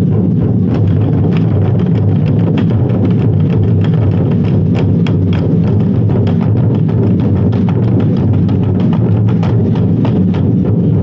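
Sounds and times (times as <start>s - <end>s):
large barrel drums beaten in unison: 0.0s - 11.0s.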